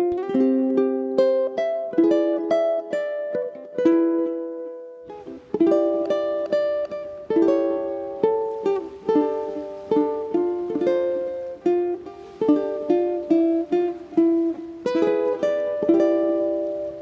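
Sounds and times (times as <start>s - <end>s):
ukulele melody: 0.0s - 17.0s.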